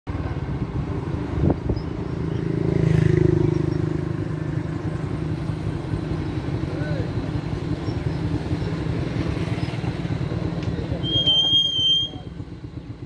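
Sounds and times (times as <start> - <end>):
vehicle engine running: 0.1 - 13.0.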